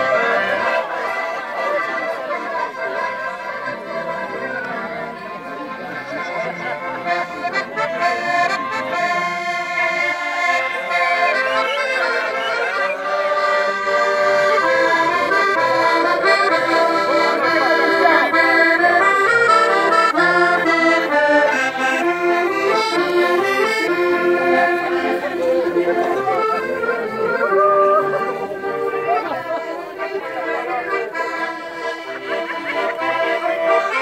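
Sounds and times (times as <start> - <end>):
accordions playing dance tune: 0.0 - 34.0.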